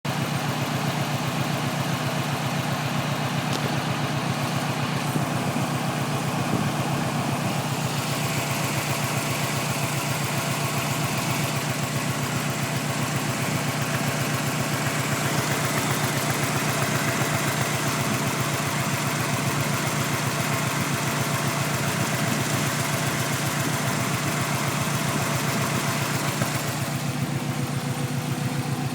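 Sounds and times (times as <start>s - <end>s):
car engine idling: 0.1s - 28.9s.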